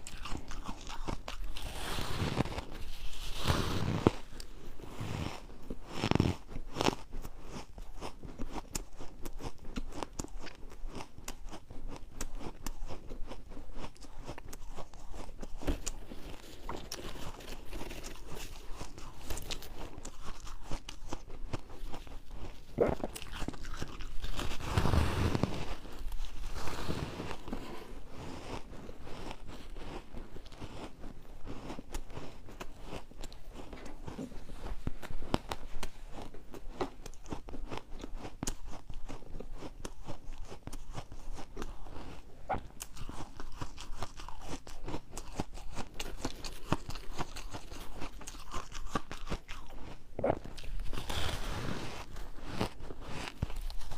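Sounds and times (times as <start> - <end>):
ice being chewed: 0.0 - 53.9.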